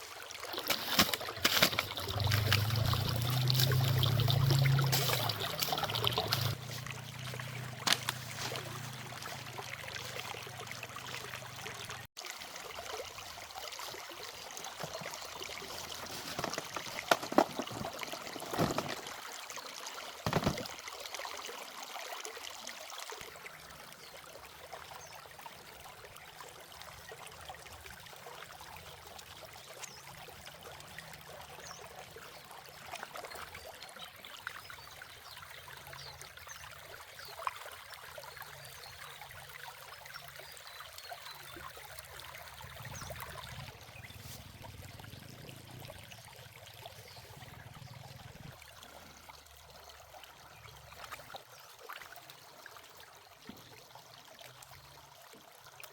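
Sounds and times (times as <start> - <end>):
running trickling water: 0.0 - 55.9.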